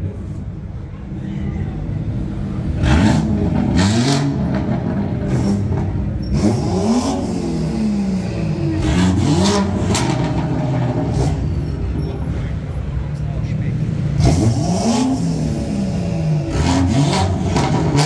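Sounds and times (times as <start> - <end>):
car engine revving: 2.5 - 12.7, 13.6 - 18.0.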